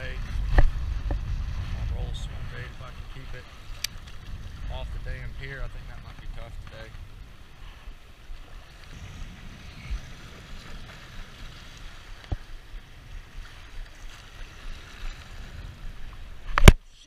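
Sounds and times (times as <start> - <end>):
wind rumbling on microphone: 0.0 - 17.0
small waves lapping on concrete: 2.2 - 17.0.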